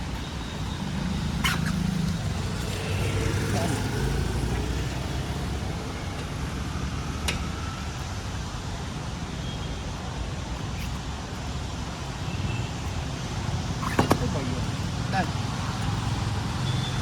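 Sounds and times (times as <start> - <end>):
roadside traffic noise: 0.0 - 17.0.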